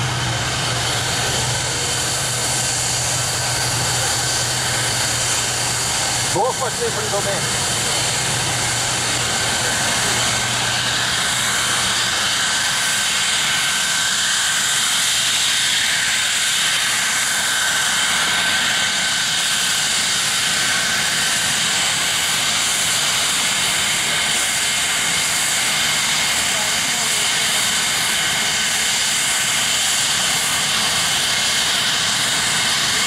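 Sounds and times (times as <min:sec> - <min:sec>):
jet engine whine: 0:00.0 - 0:33.0.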